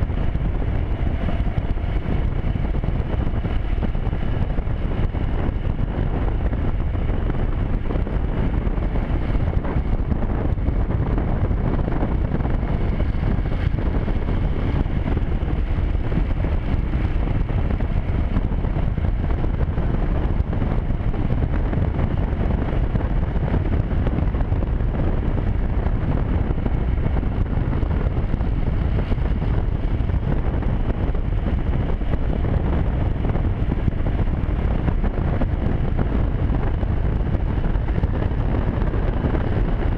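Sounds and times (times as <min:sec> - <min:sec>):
motorcycle running: 0:00.0 - 0:39.9
wind buffeting microphone: 0:00.0 - 0:39.9.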